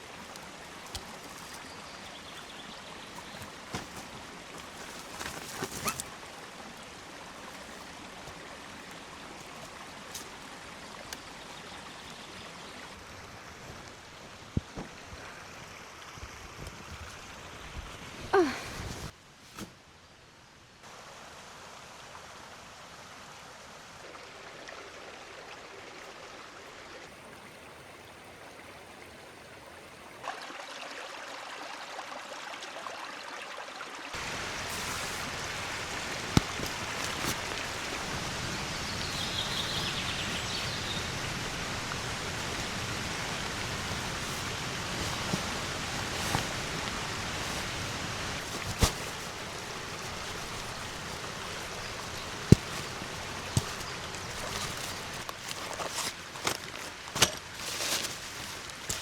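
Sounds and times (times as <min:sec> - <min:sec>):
rushing water: 0:00.0 - 0:19.2, 0:20.8 - 0:59.0.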